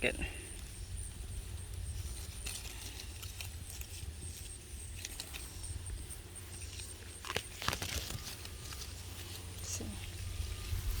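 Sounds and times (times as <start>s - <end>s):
wind rumbling on microphone: 0.0s - 6.8s, 8.0s - 11.0s
rustles: 0.0s - 11.0s.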